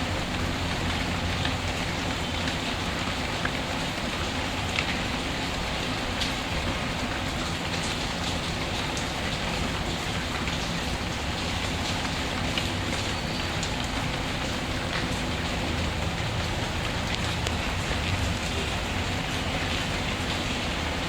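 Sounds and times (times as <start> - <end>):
faint wood fire crackles: 0.0 - 20.9
rain pattering: 0.0 - 21.0.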